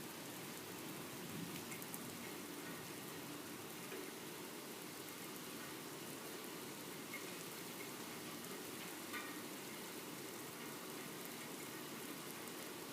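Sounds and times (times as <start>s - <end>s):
rain hissing: 0.0s - 12.9s
light drip ticks: 1.4s - 4.2s, 5.1s - 12.9s.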